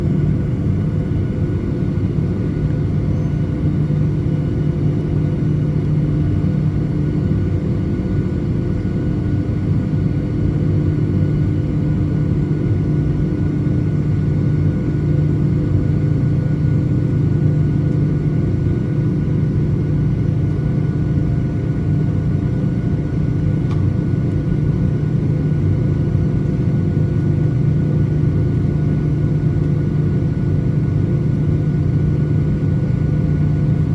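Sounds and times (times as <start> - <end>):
jet engines running steadily: 0.0 - 33.9.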